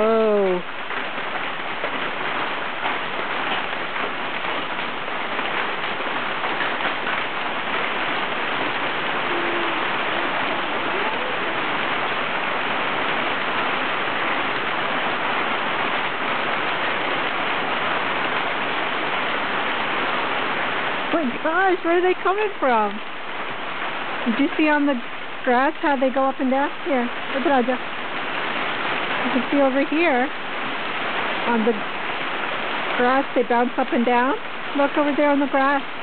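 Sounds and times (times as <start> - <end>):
hail pattering on ground: 0.0 - 36.0.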